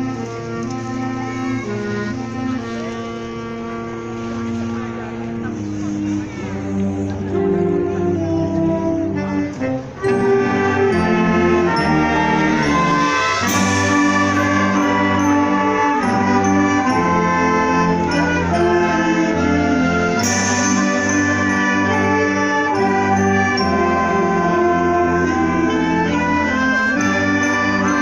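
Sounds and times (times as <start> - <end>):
wind band playing: 0.0 - 28.0.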